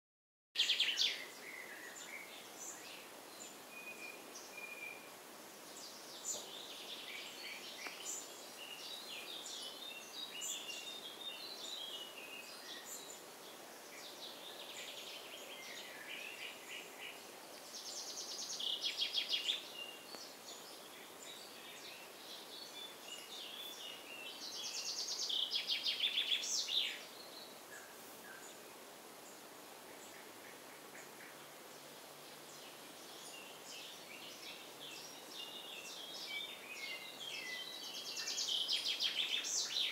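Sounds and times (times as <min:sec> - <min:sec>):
birds chirping: 0:00.6 - 0:39.9.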